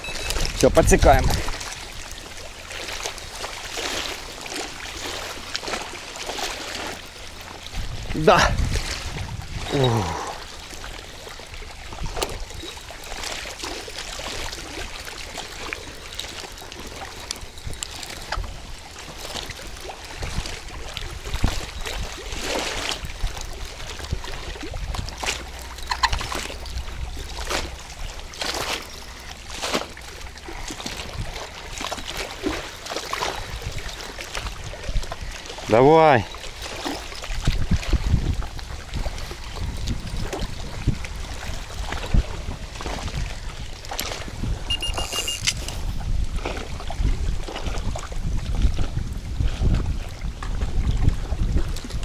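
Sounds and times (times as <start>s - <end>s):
water splashing: 0.0s - 49.0s
wind rumbling on microphone: 0.0s - 52.0s.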